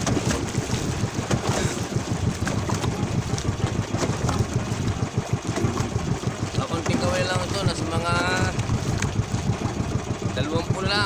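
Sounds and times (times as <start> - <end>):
sea water washing around boat: 0.0 - 11.0
wind rumbling on microphone: 0.0 - 11.0.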